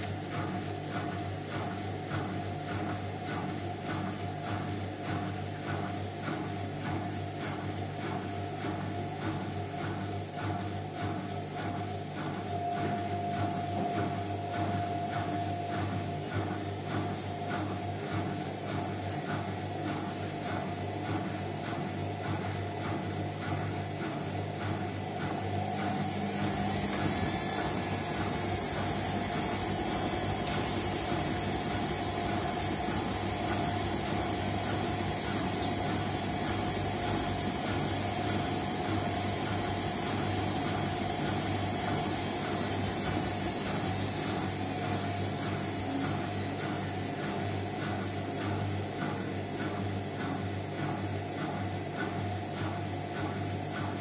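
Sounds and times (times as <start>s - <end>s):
washing machine drum motor humming: 0.0s - 54.0s.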